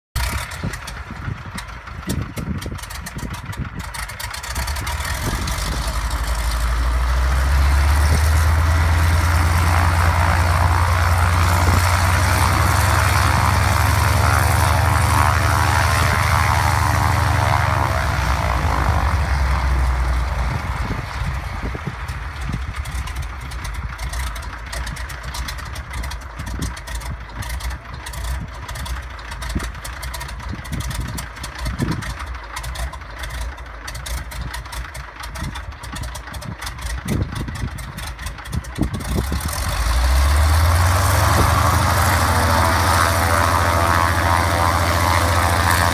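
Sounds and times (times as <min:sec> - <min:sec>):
propeller plane engine running: 0:00.2 - 0:45.9.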